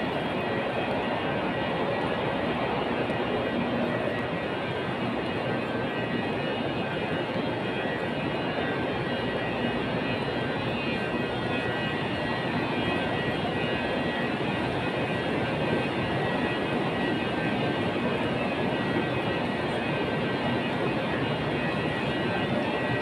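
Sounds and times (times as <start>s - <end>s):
train cooling equipment hum: 0.0s - 23.0s.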